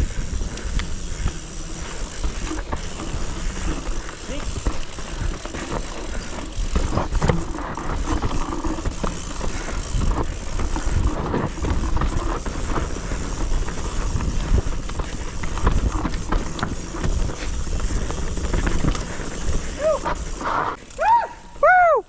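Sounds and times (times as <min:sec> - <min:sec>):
bike knocks and rattles: 0:00.3 - 0:20.6.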